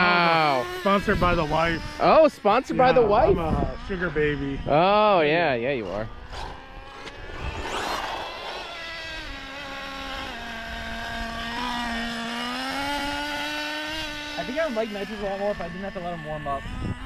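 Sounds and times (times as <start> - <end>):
nitro rc engine idling: 0.0 - 4.6, 5.7 - 17.0.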